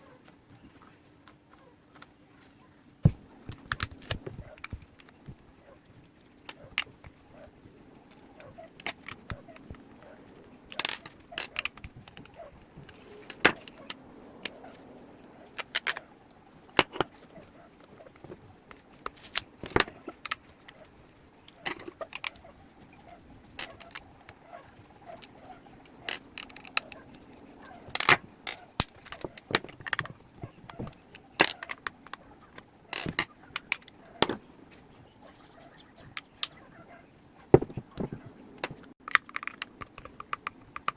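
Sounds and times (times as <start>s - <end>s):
tools clicking and scraping plastic: 3.1s - 14.7s, 15.4s - 16.0s, 16.6s - 34.5s, 37.5s - 40.9s.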